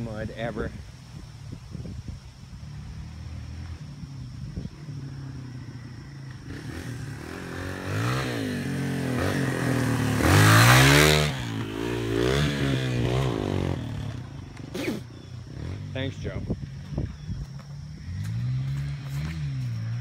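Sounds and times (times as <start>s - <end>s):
off-road vehicle engine revving: 2.7s - 16.6s, 17.8s - 20.0s.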